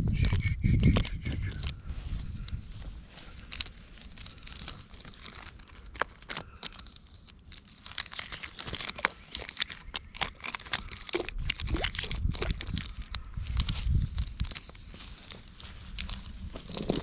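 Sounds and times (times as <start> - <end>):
dry leaves and twigs crunching: 1.1 - 17.0.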